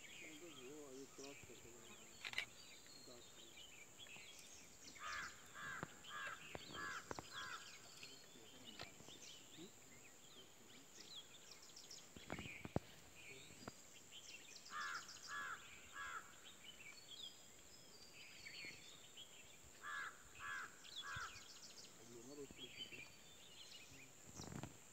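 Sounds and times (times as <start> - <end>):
higher bird chirps: 0.0 - 24.7
steady high hiss: 0.0 - 24.9.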